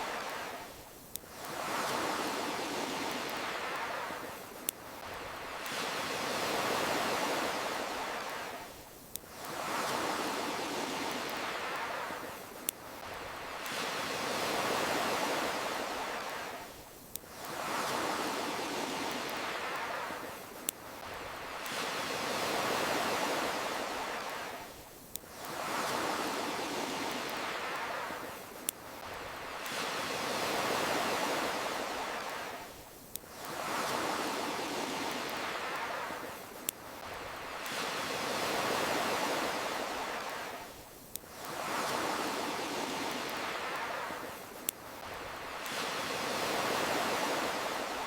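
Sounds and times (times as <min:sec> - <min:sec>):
campfire crackling: 0:00.0 - 0:48.0
ocean waves rolling in: 0:00.0 - 0:48.0.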